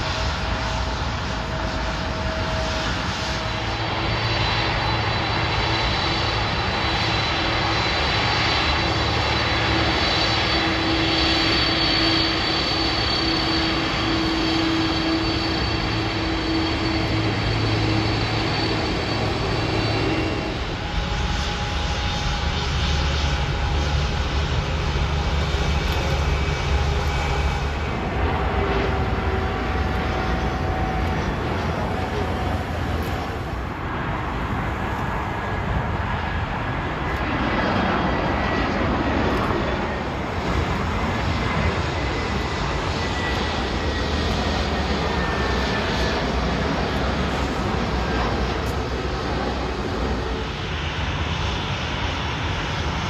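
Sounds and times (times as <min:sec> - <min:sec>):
jet engines rumbling and whining: 0:00.0 - 0:53.0.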